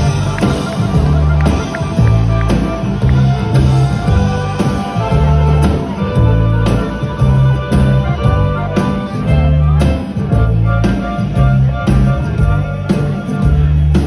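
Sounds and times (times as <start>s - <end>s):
bass line: 0.0s - 14.0s
drums: 0.0s - 14.0s
guitar: 0.0s - 14.0s
live band music: 0.0s - 14.0s.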